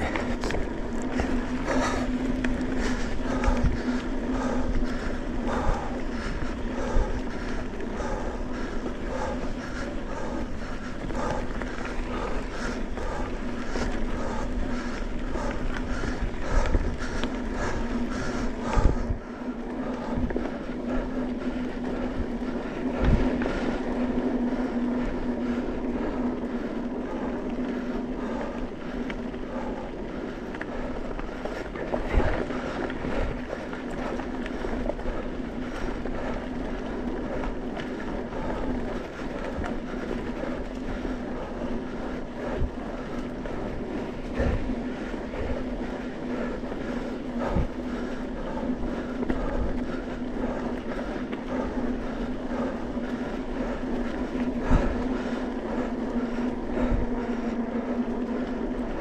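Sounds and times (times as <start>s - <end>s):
off-road vehicle engine drone: 0.0s - 59.0s.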